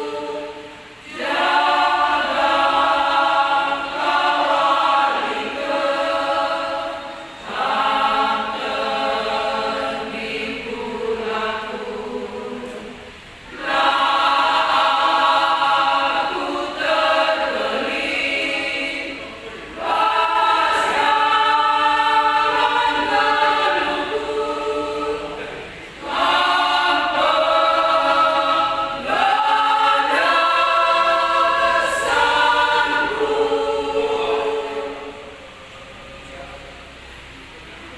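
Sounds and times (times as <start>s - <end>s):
women's choir singing a hymn: 0.0s - 35.8s.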